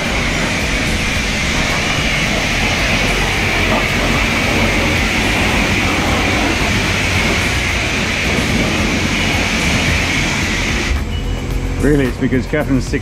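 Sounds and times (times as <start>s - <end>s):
pressure washer spraying water: 0.0s - 11.4s.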